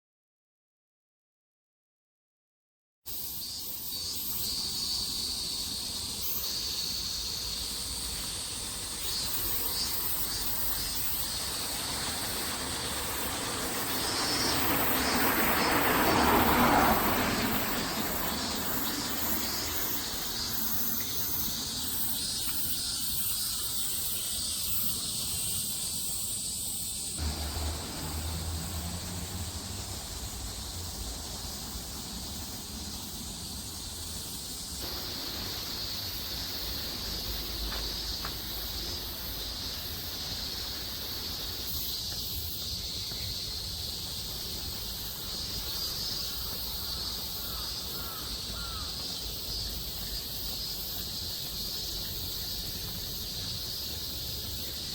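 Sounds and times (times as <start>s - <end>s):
cicadas buzzing: 3.1s - 54.9s.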